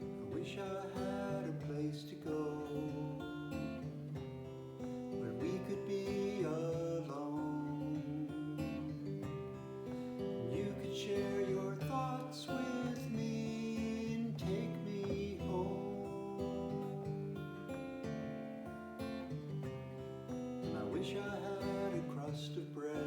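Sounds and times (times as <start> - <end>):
acoustic guitar plucked and strummed: 0.0 - 23.0.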